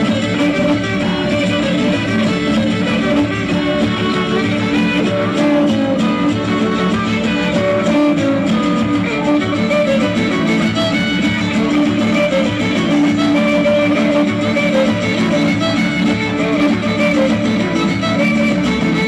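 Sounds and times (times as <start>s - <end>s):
folk dance music with violins: 0.0s - 19.0s.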